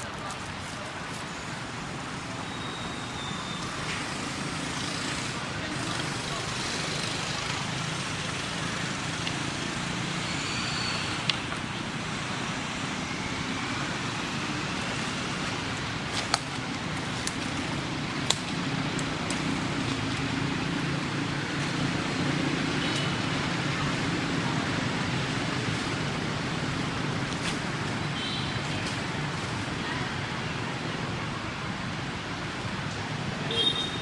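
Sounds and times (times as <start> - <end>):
low hum of outdoor background: 0.0 - 34.0.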